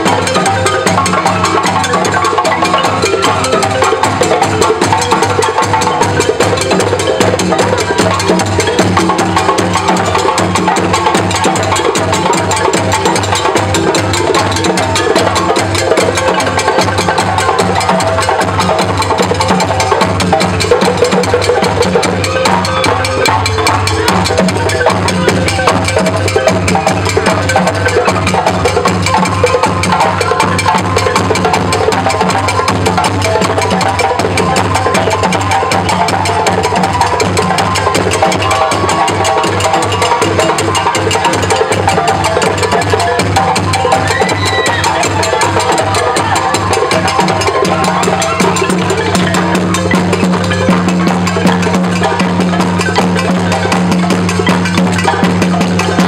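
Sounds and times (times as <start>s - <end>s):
drum beaten with a stick: 0.0s - 56.0s
hand drums playing: 0.0s - 56.0s.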